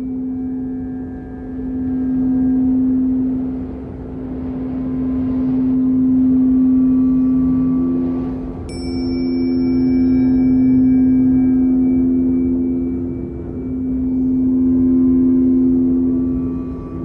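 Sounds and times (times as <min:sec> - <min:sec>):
fainter higher tone: 0:00.0 - 0:17.0
humming drone tone: 0:00.0 - 0:17.0.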